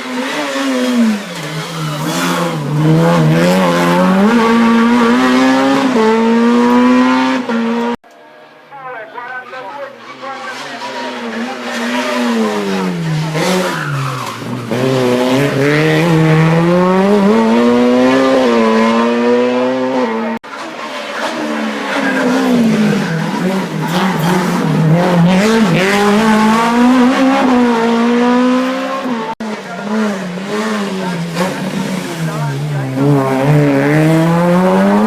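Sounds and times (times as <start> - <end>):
race car engine at high revs: 0.0 - 8.0, 10.1 - 35.0.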